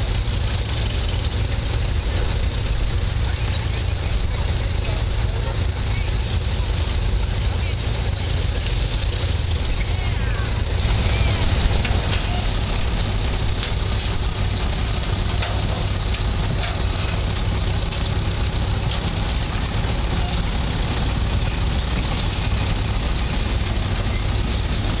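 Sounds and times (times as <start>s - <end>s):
gasoline engine idling: 0.0s - 25.0s.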